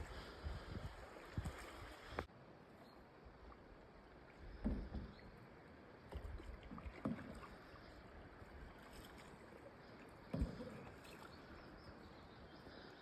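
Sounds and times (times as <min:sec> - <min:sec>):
canoe paddle splashes: 0:00.0 - 0:02.3, 0:03.3 - 0:13.0.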